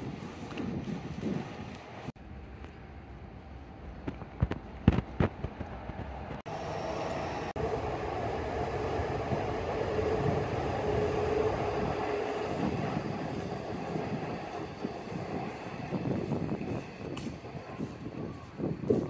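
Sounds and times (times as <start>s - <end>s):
train rumbling by: 3.1s - 19.0s.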